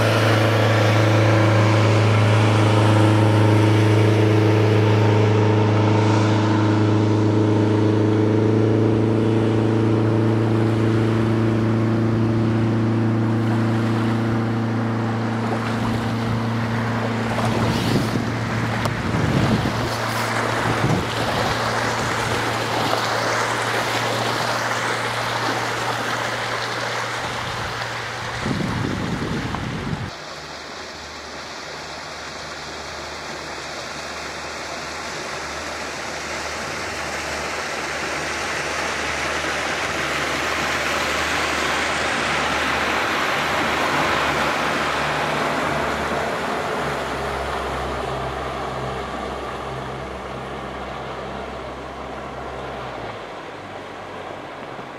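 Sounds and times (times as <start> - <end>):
outboard motor running: 0.0 - 54.9
water lapping: 0.0 - 54.9
water splashing along hull: 0.0 - 54.9.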